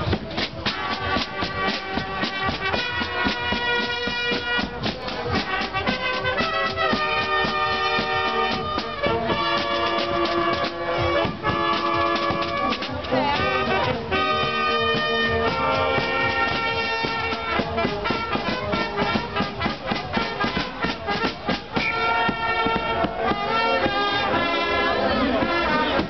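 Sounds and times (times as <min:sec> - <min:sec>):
bass drum: 0:00.0 - 0:26.0
snare drum strokes: 0:00.0 - 0:26.0
trumpets playing melody: 0:00.0 - 0:26.0.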